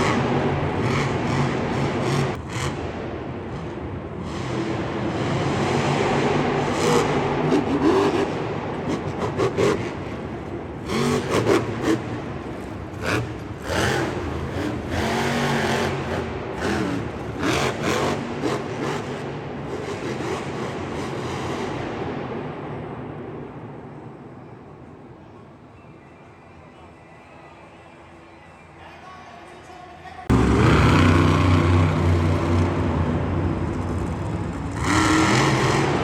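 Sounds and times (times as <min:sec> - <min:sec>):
vehicle engine revving: 0:00.0 - 0:23.8, 0:30.3 - 0:36.0.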